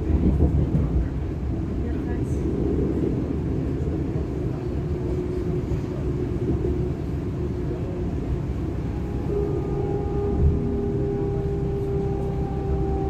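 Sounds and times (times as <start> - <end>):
train running gear rumble: 0.0 - 13.0.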